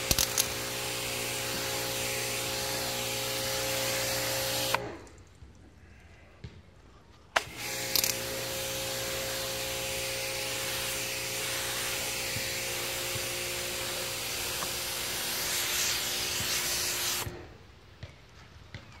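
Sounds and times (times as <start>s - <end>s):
pressure washer jet spraying: 0.0s - 5.1s, 7.4s - 17.6s.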